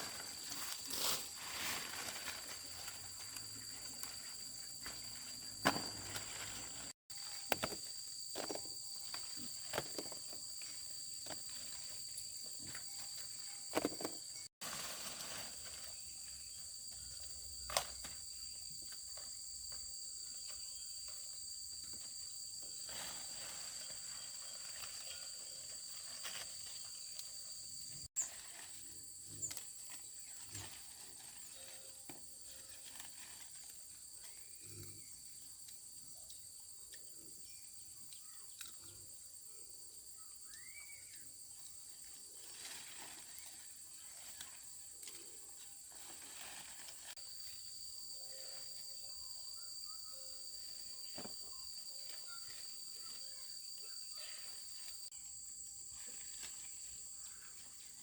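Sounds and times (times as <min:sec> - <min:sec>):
insects chirping drone: 0:00.0 - 0:58.0.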